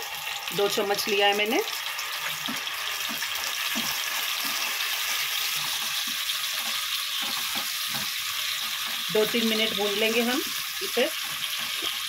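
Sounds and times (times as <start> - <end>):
paste sizzling in hot oil: 0.0 - 12.0
spatula stirring: 1.9 - 12.0.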